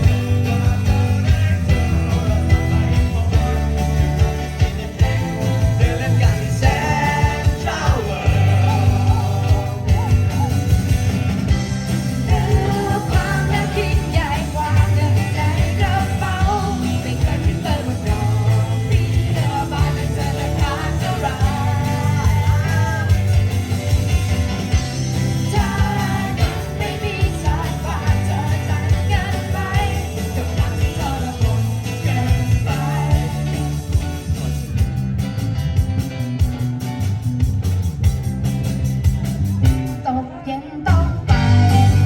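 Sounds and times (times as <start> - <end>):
steady drum beat: 0.0 - 40.0
live band playing pop-rock: 0.0 - 42.0.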